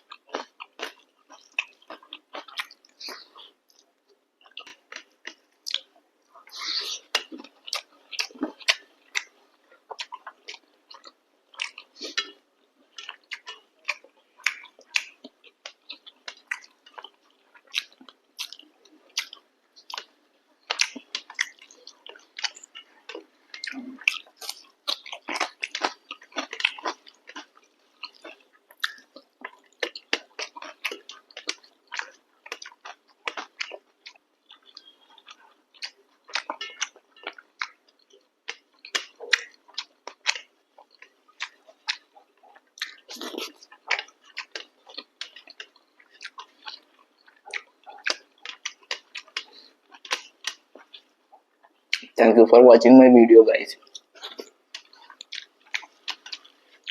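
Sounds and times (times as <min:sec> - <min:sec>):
chewing and biting food: 0:00.0 - 0:52.2, 0:53.8 - 0:56.9.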